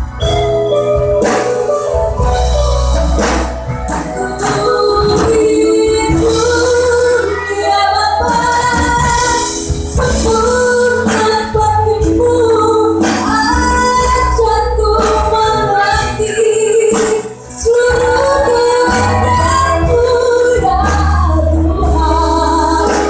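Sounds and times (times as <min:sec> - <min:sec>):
band accompaniment: 0:00.0 - 0:23.0
woman singing: 0:04.0 - 0:23.0.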